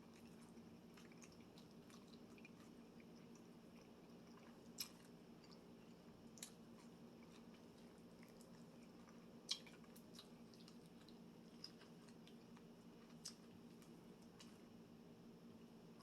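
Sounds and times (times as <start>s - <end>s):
wet chewing: 0.0s - 14.6s
low room hum: 0.0s - 16.0s.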